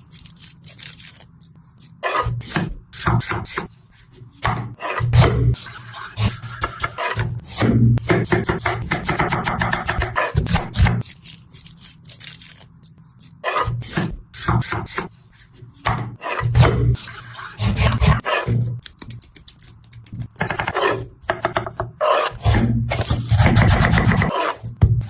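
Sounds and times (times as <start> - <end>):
knife cutting and scraping fruit: 0.0 - 9.2, 9.9 - 25.0.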